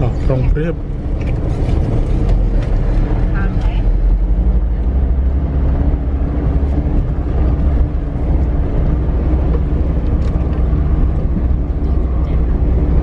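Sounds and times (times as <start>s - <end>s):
vehicle on rough dirt road: 0.0s - 13.0s.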